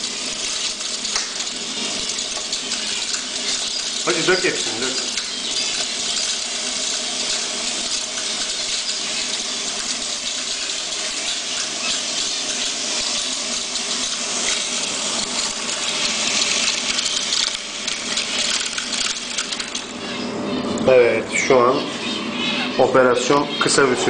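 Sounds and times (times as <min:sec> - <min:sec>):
seeds pouring with rushing hiss: 0:00.0 - 0:19.9
fan humming: 0:00.0 - 0:24.0.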